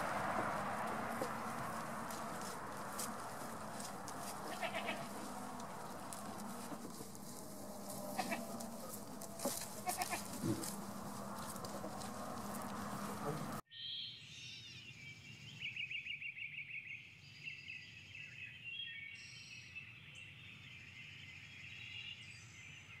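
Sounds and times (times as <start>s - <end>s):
birds singing and calling: 0.0s - 23.0s.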